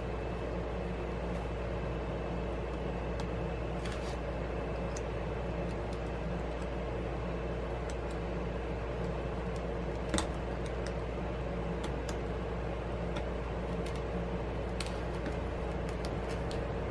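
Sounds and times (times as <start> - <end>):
steady machine hum: 0.0 - 16.9.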